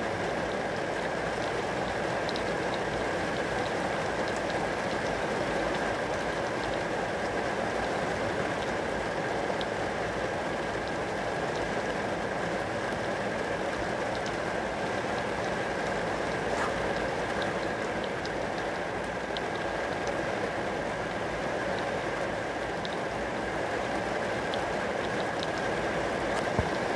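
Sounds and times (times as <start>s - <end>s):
rain falling on glass: 0.1s - 26.9s.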